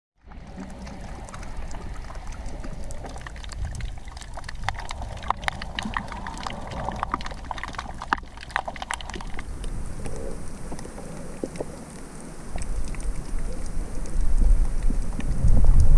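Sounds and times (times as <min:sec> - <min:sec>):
muffled underwater rumble: 0:00.2 - 0:15.9
sharp underwater clicks: 0:00.4 - 0:15.9.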